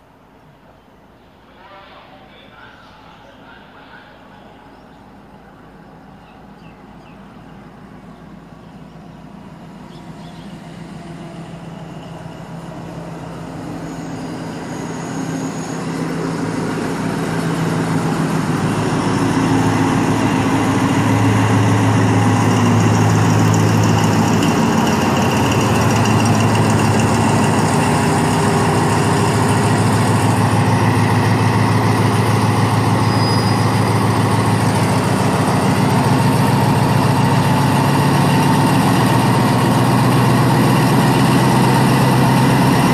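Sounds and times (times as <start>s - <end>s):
diesel locomotive engine passing: 0.0s - 42.9s.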